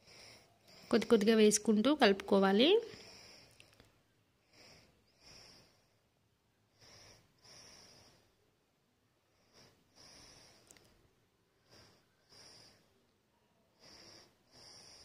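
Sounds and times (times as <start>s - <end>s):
soft breaths: 0.0s - 15.0s.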